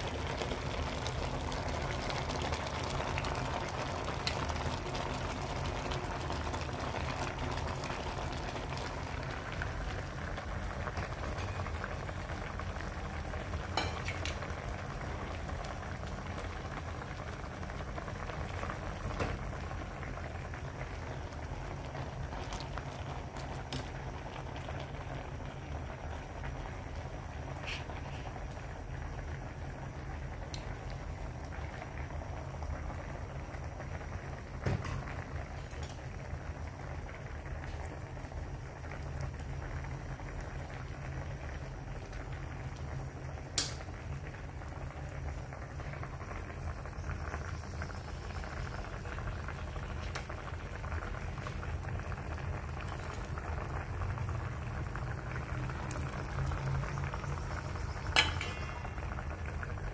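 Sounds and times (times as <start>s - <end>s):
soup bubbling at a rolling boil: 0.0s - 59.9s.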